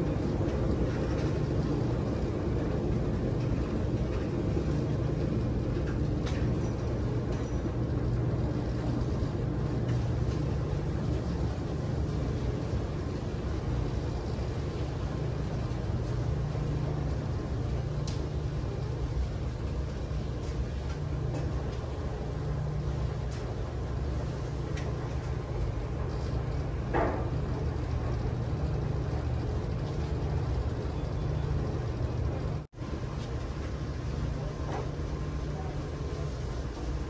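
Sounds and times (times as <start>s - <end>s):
washing machine drum rumbling: 0.0s - 37.0s.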